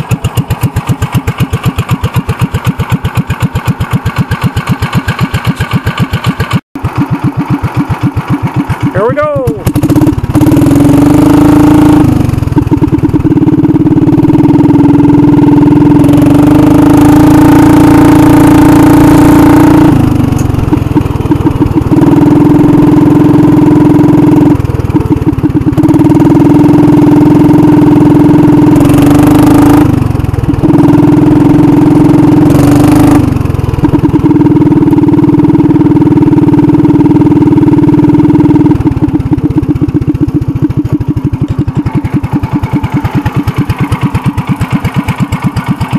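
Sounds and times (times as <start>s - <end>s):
three-wheeler engine revving: 0.0s - 45.9s.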